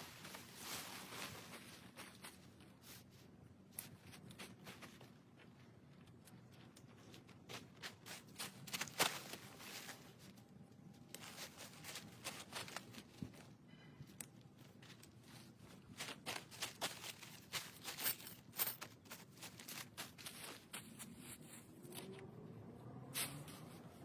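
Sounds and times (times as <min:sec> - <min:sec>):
rustling: 0:00.0 - 0:22.4.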